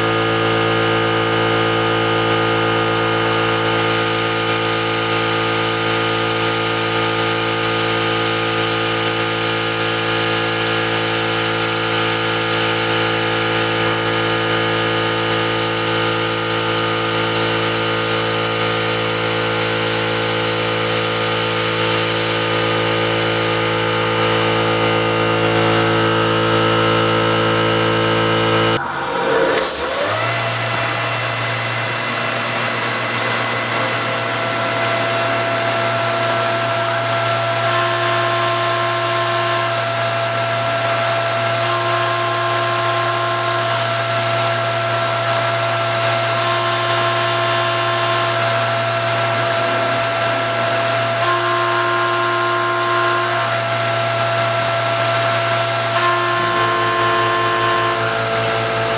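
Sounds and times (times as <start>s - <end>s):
milling machine whining: 0.0s - 58.9s.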